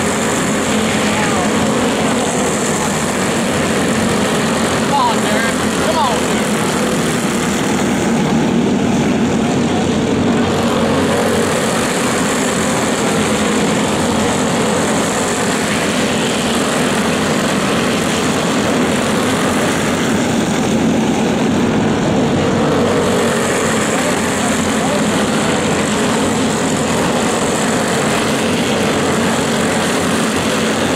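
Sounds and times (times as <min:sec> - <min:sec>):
kart engines racing: 0:00.0 - 0:30.9.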